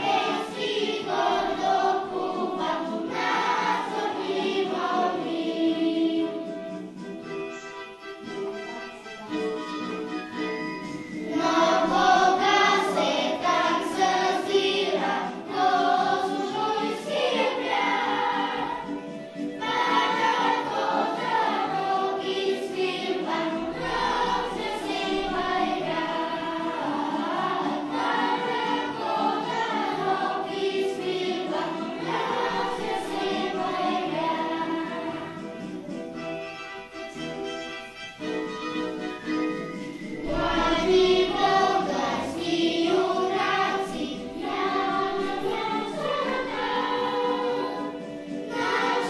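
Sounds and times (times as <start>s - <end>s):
children's choir singing: 0.0s - 49.0s
instrumental accompaniment: 0.0s - 49.0s.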